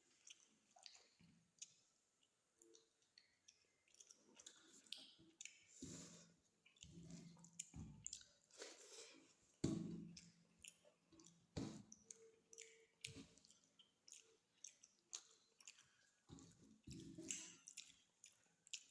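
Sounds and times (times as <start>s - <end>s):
wet chewing: 0.0s - 18.9s.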